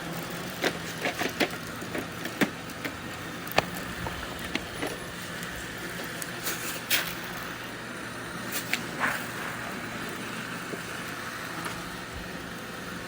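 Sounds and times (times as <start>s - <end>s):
robot vacuum humming: 0.0s - 13.0s.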